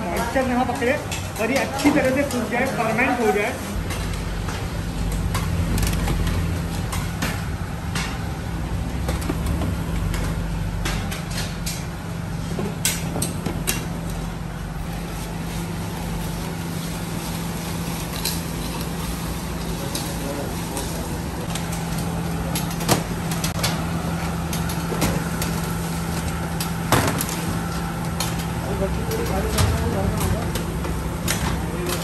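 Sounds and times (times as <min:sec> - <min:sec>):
bakery machinery hum: 0:00.0 - 0:32.0.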